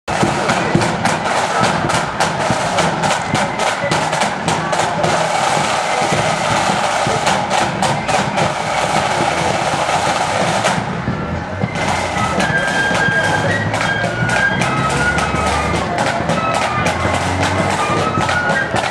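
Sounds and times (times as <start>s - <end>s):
flute band playing a march: 0.1s - 18.9s
side drums beating: 0.1s - 18.9s.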